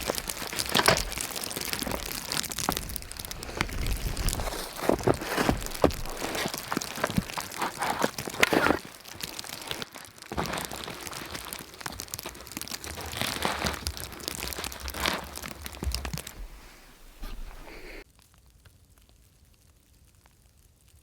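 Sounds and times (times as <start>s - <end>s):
crunching and crinkling: 0.0s - 18.0s.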